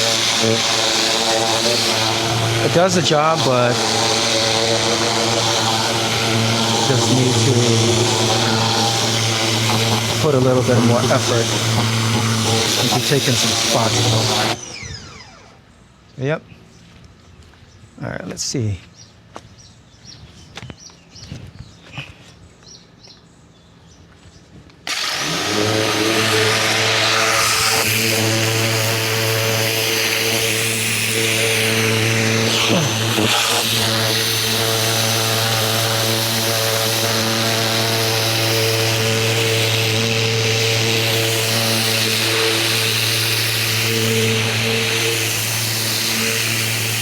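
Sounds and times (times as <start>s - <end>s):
pressure washer motor hum: 0.0s - 15.7s, 24.8s - 47.0s.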